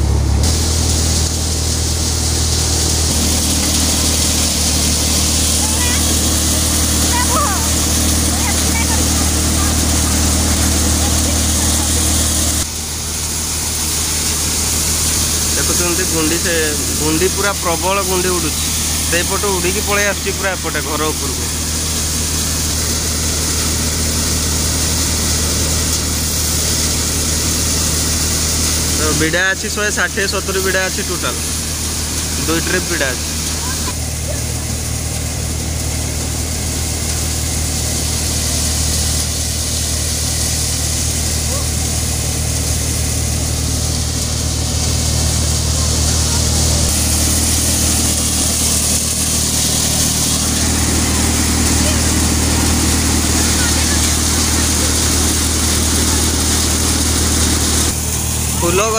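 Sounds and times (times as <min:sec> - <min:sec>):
threshing machine running: 0:00.0 - 0:58.9
tractor engine hum: 0:00.0 - 0:58.9.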